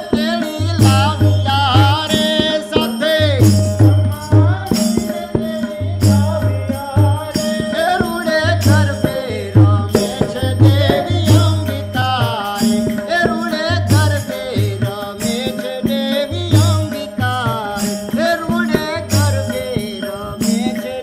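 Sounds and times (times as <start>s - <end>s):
tabla bass drum strokes: 0.0s - 20.9s
man singing: 0.0s - 21.0s.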